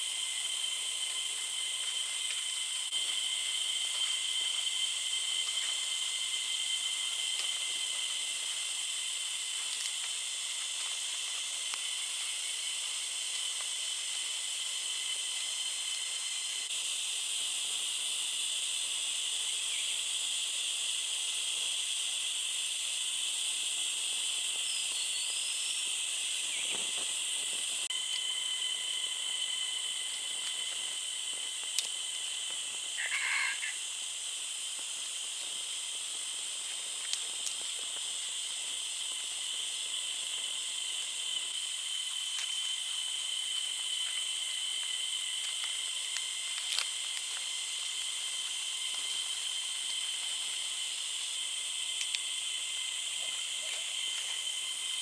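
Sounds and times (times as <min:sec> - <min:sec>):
forest insects droning: 0:00.0 - 0:55.0.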